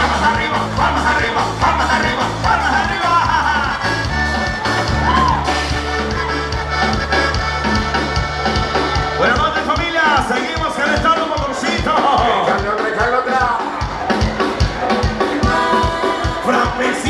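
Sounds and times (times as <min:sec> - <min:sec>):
live band dance music: 0:00.0 - 0:17.0.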